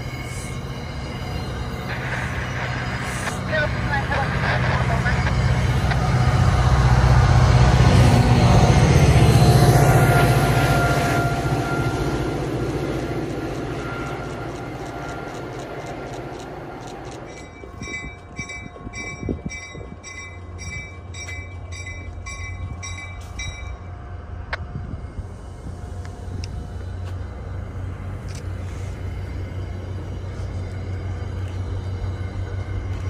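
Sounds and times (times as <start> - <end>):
locomotive engine: 0.0 - 33.0
train wheels on rails: 0.0 - 33.0.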